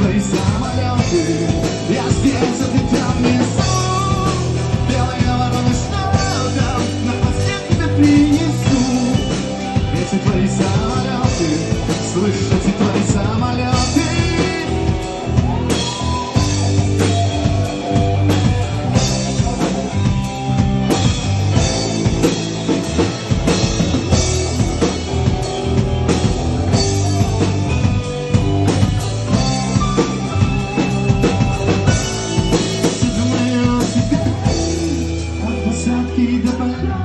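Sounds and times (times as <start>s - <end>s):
instrumental rock drums and guitar: 0.0s - 37.0s.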